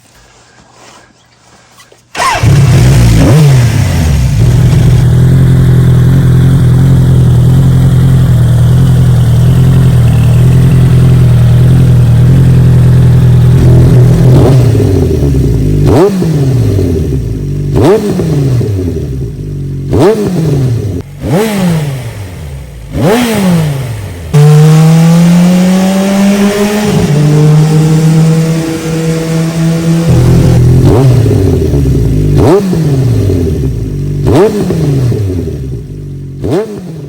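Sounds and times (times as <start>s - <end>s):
motorcycle engine revving and idling: 2.1s - 37.0s.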